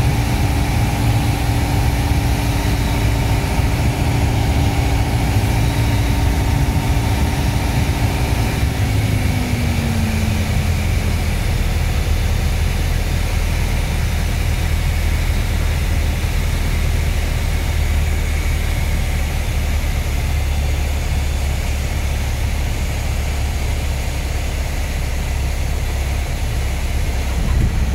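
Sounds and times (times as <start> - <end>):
aircraft engine and propeller drone: 0.0 - 27.9.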